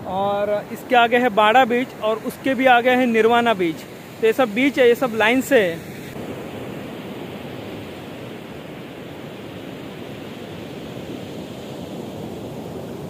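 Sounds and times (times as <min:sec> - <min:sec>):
sea waves on a beach: 0:00.0 - 0:13.0.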